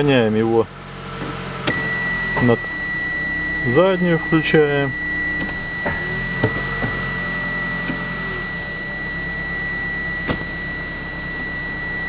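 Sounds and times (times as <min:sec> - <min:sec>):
car engine idling: 0:00.0 - 0:12.0
high-pitched warning tone: 0:01.7 - 0:12.0.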